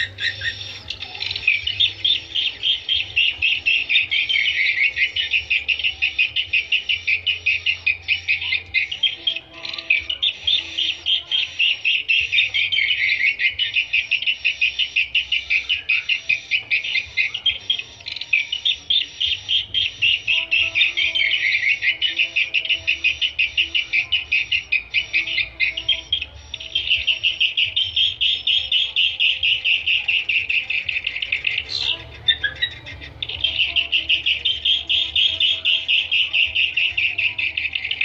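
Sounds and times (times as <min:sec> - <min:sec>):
rapid high bird chirping: 0:00.0 - 0:38.0.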